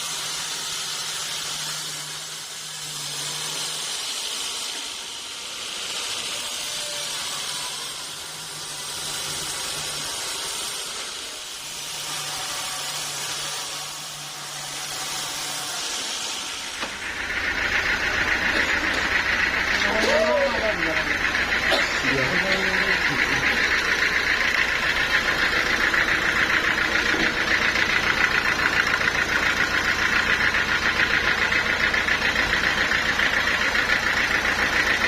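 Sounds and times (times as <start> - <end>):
sawmill machinery hissing: 0.0 - 35.0.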